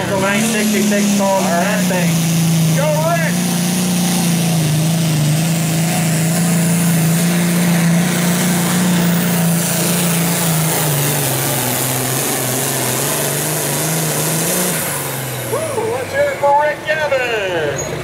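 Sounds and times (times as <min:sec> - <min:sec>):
diesel tractor engine running hard: 0:00.0 - 0:18.0.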